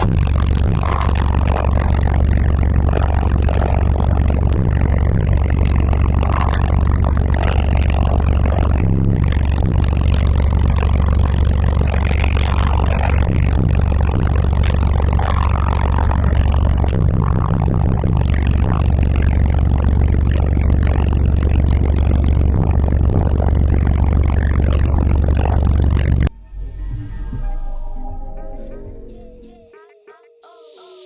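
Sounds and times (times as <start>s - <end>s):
loud bass-heavy music from subwoofers: 0.0s - 29.8s.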